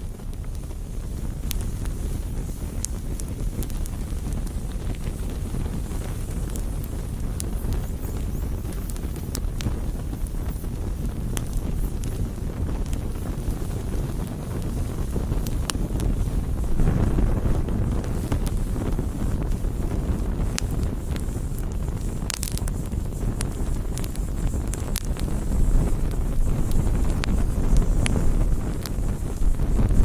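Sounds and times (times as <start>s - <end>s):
burning wood crackling and popping: 0.0s - 30.0s
low rush of flames: 0.0s - 30.0s.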